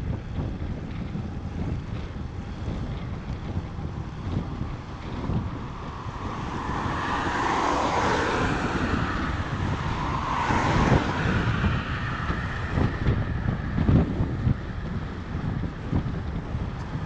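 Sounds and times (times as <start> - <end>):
motor traffic passing: 0.0 - 17.0
wind buffeting microphone: 0.0 - 17.0.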